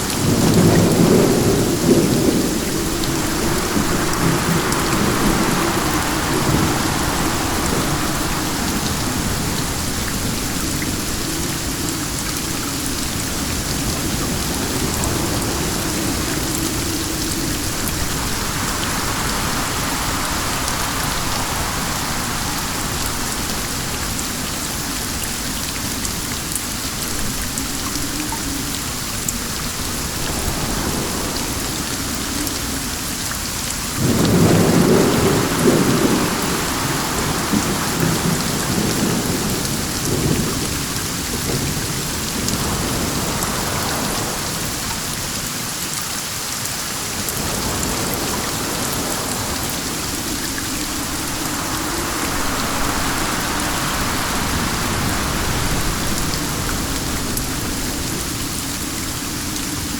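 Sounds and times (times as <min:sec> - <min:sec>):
steady rain falling: 0:00.0 - 0:59.9
wind: 0:00.0 - 0:59.9.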